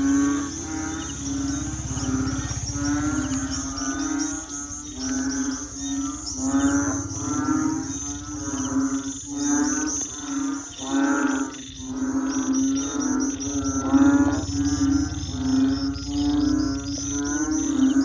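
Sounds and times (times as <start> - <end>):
crickets trilling: 0.0 - 18.0
frogs croaking: 0.0 - 18.0.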